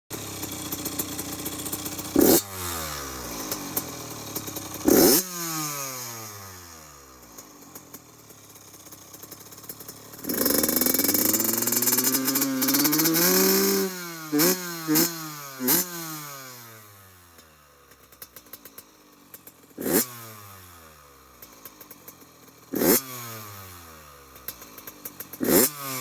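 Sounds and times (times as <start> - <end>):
dirt bike engine revving: 0.4 - 17.2, 19.7 - 21.9, 22.7 - 26.0.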